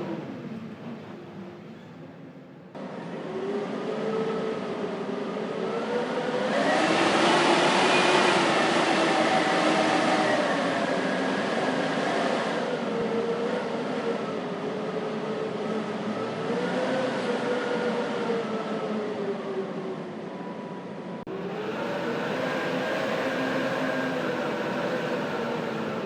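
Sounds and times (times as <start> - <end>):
blizzard wind howling: 2.7 - 26.0.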